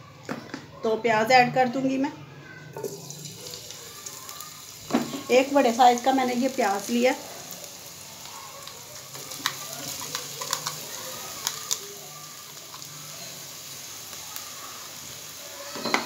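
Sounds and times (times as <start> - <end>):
onion sizzling in hot oil: 2.7 - 16.0.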